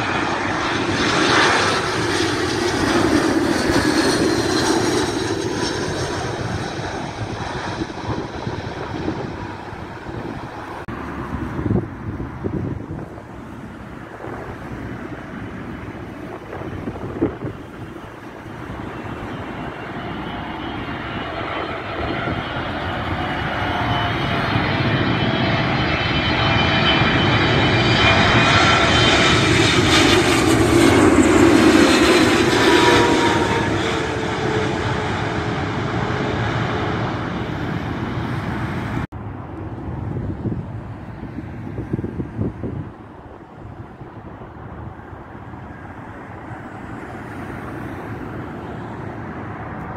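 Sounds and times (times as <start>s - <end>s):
jet plane passing overhead: 0.0s - 49.9s.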